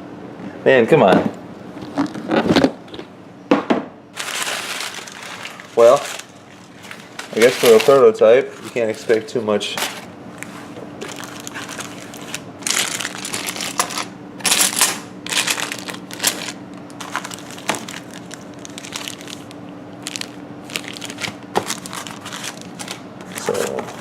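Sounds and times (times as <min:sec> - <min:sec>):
faint steady hum: 0:00.0 - 0:24.0
packaging crinkling and rustling: 0:04.2 - 0:24.0.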